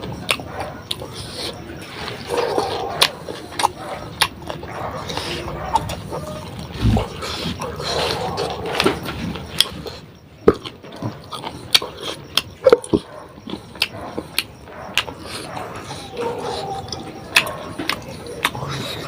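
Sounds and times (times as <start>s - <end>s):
mouth clicks and smacks: 0.0s - 19.0s
soft chewing: 0.0s - 19.0s.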